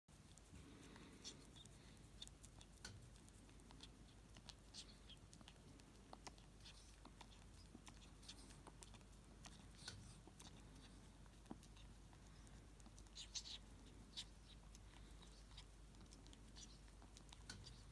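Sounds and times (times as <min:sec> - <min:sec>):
ferret licking and chewing: 0:00.1 - 0:17.9.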